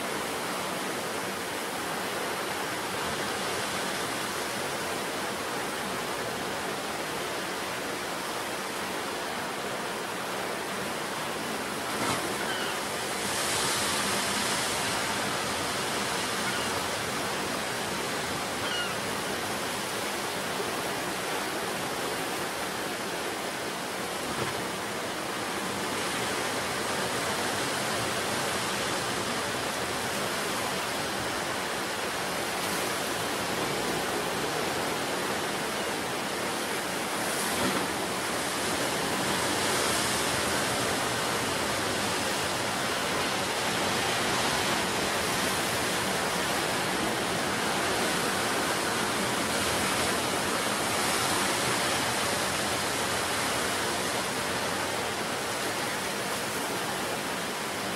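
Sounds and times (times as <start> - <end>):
waves breaking on shore: 0.0 - 57.9.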